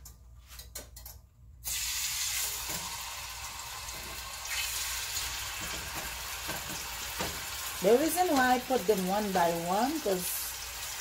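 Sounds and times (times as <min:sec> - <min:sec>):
hot oil sizzling: 0:01.6 - 0:11.0.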